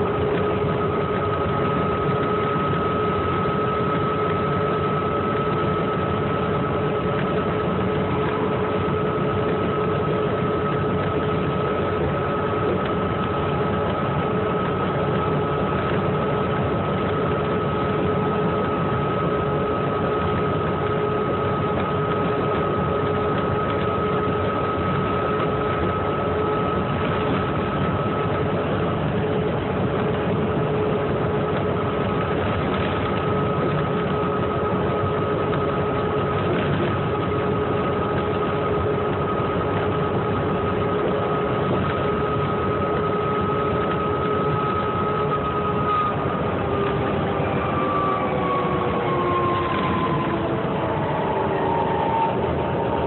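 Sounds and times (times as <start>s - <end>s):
bus engine running: 0.0s - 53.0s
road and tyre noise: 0.0s - 53.0s
steady whining tones: 0.0s - 53.0s.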